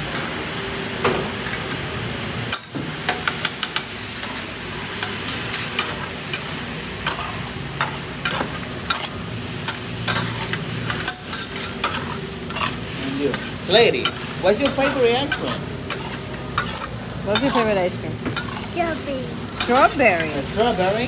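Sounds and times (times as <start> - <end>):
rice sizzling on griddle: 0.0 - 21.0.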